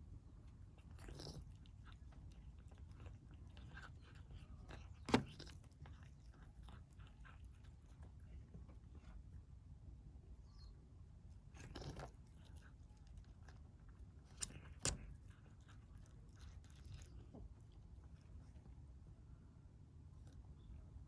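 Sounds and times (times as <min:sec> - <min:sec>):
kittens chewing: 0:00.0 - 0:09.6, 0:11.1 - 0:19.1.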